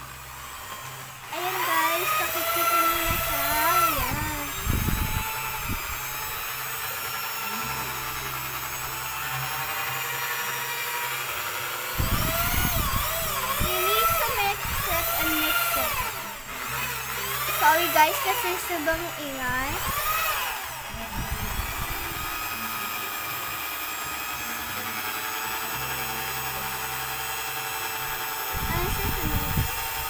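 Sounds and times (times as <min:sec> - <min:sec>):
electric drill motor whine: 0:00.0 - 0:30.0.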